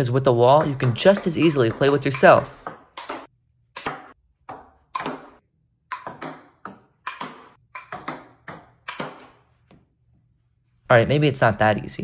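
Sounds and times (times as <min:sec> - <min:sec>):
table tennis ball bouncing: 0:00.0 - 0:09.9.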